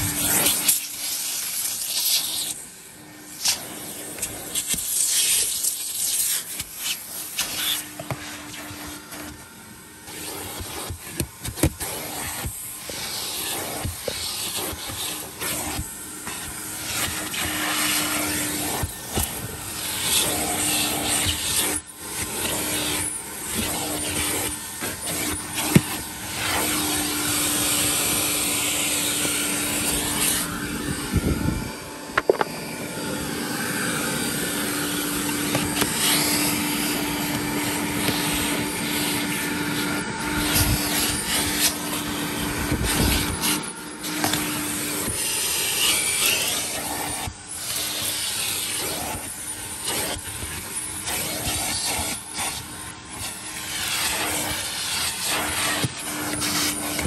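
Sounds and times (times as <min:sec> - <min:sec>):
nozzle scraping over carpet: 0:00.0 - 0:57.0
vacuum cleaner running: 0:00.0 - 0:57.0.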